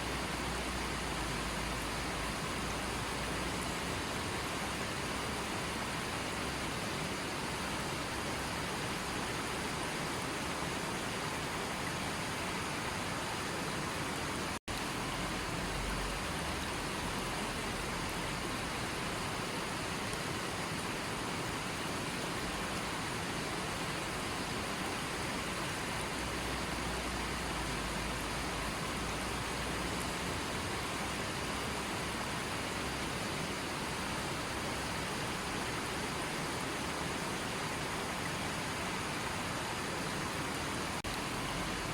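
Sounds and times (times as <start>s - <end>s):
stream flowing: 0.0s - 41.9s.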